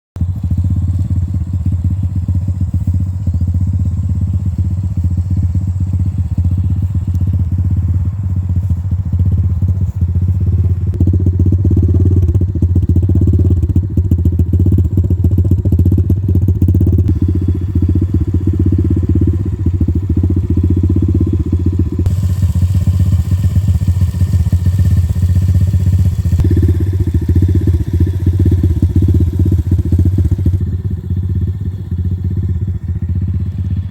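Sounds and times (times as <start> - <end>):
motorbike engine running: 0.2 - 33.9.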